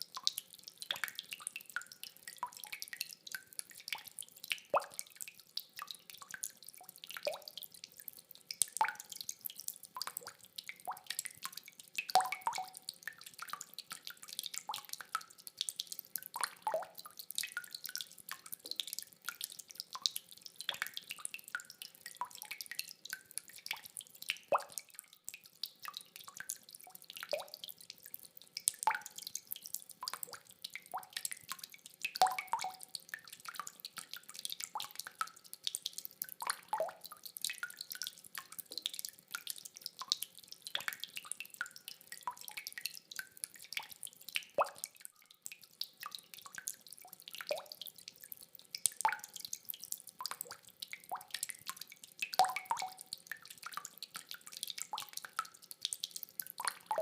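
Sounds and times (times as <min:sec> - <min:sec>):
rainwater dripping: 0:00.0 - 0:57.0.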